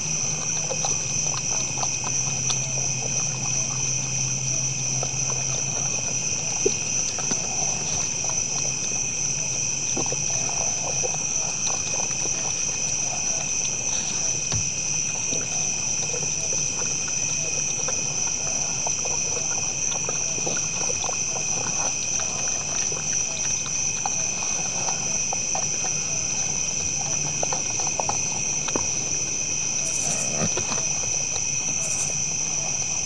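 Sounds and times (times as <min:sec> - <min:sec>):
crickets chirping: 0:00.0 - 0:33.0
deer crunching feed: 0:00.0 - 0:33.0.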